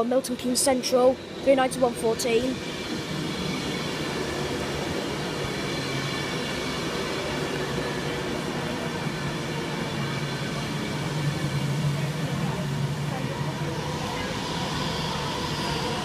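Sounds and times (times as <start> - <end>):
electric train running: 0.0 - 16.0
faint high whines: 0.8 - 16.0.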